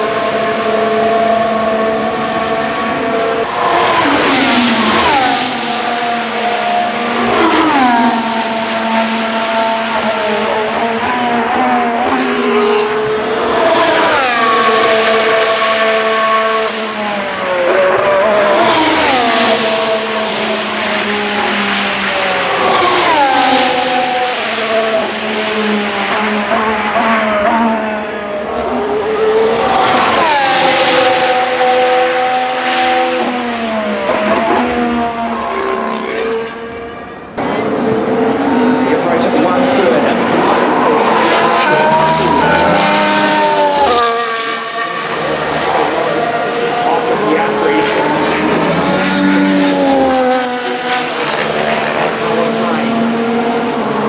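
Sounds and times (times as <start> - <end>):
race cars screaming past: 0.0 - 54.0.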